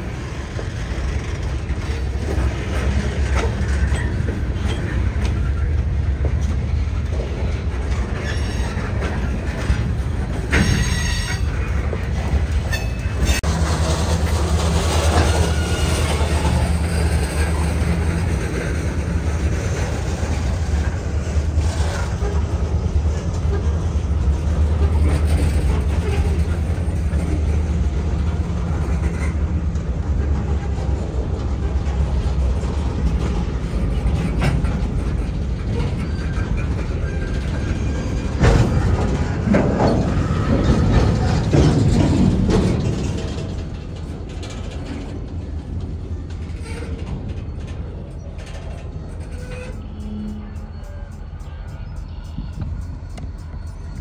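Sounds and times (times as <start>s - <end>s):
freight car wheels rumbling on rail: 0.0s - 54.0s.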